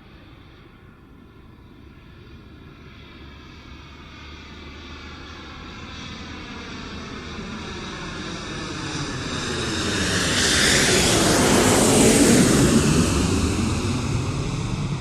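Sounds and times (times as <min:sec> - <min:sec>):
jet aircraft flying overhead: 0:00.0 - 0:15.0.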